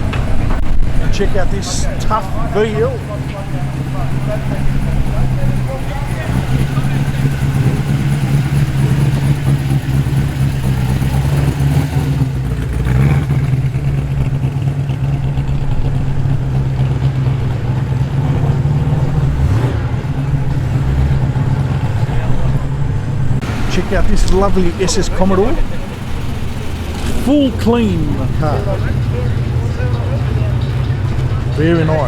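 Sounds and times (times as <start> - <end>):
car engine deep rumble: 0.0 - 32.0.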